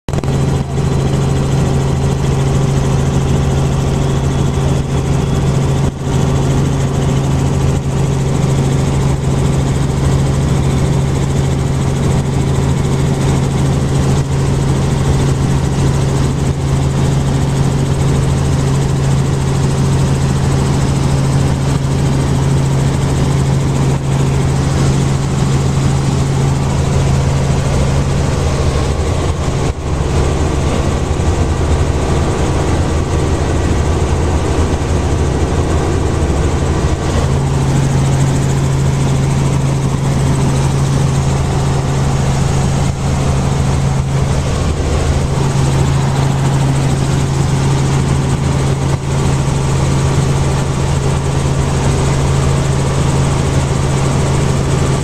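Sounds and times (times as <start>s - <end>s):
helicopter cabin drone: 0.1s - 55.0s.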